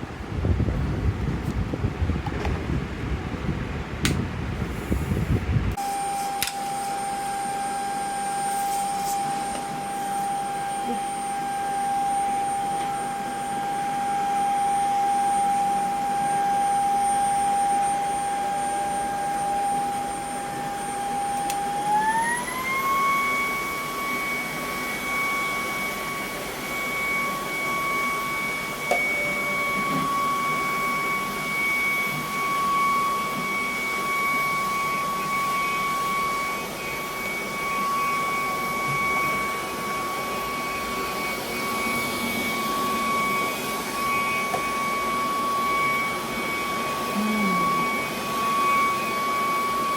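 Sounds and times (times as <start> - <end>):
stick vacuum motor whining: 5.2 - 49.9.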